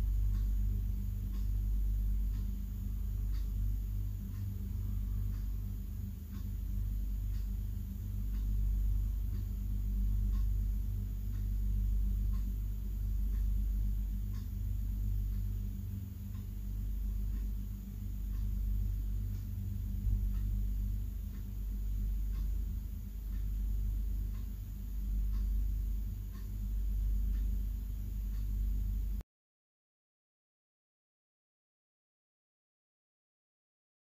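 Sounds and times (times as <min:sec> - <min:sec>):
faint ticks: 0:00.0 - 0:29.2
low room hum: 0:00.0 - 0:29.2.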